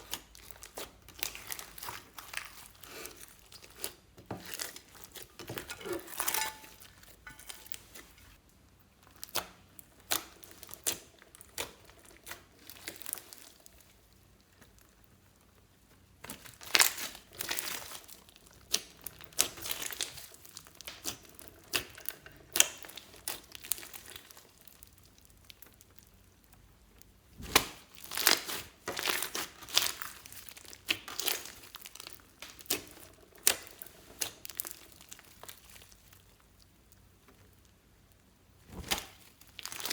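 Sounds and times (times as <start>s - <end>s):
slime squishing with sticky pops: 0.0s - 5.8s, 8.9s - 39.9s.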